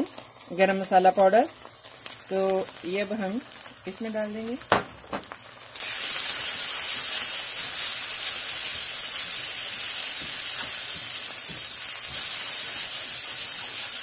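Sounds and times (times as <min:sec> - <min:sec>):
onion masala sizzling in hot oil: 0:00.0 - 0:14.0.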